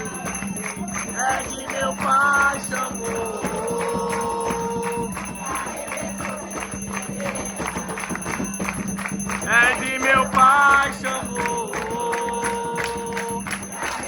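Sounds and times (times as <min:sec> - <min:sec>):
bell-like jingle: 0:00.0 - 0:14.0
steady percussion beat: 0:00.0 - 0:14.0
voices chanting: 0:00.0 - 0:14.0.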